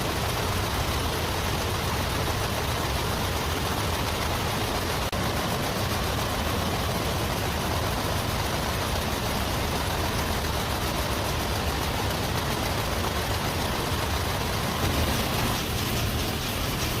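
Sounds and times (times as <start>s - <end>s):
nail-making machinery clattering: 0.0s - 17.0s.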